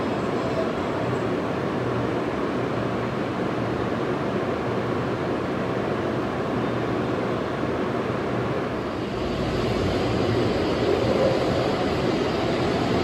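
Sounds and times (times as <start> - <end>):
train hum and rush: 0.0 - 13.0.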